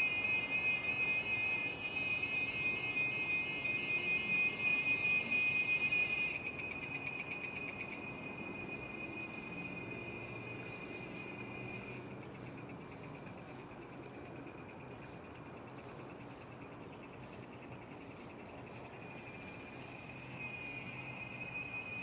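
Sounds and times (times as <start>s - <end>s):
cricket trilling: 0.0s - 22.0s.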